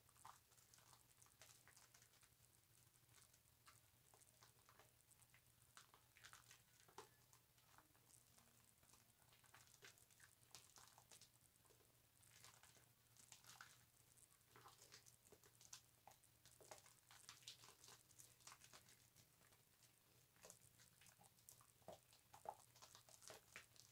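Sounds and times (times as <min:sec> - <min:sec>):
loofah squishing soap lather: 0:00.0 - 0:23.9.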